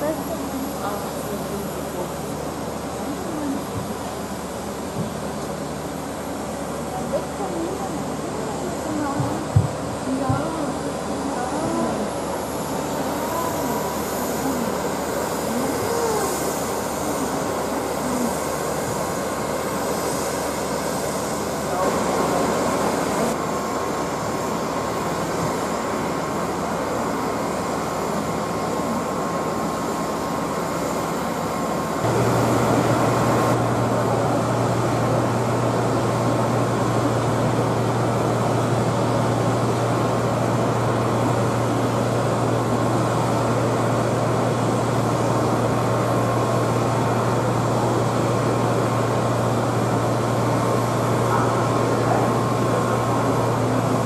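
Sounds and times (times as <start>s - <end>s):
propeller aircraft engine drone: 0.0s - 54.0s
thin steady whine: 0.0s - 54.0s.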